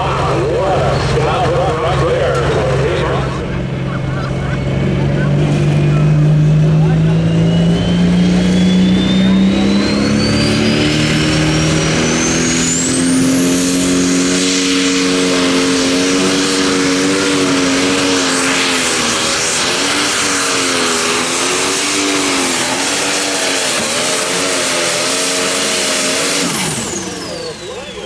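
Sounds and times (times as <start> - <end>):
diesel engine running hard: 0.0 - 28.0
turbo whine: 0.0 - 28.0.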